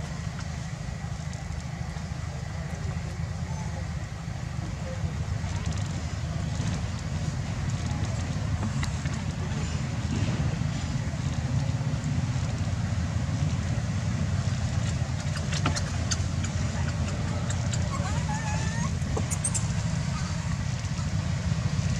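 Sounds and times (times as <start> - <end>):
low rumbling background noise: 0.0 - 21.9.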